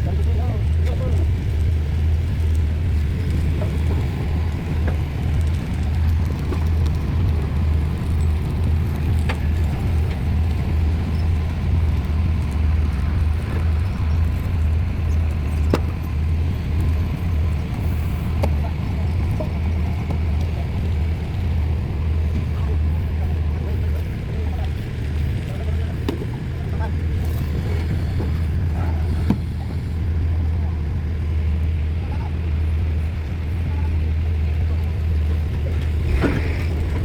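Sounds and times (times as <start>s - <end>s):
diesel engine rumbling: 0.0s - 37.0s.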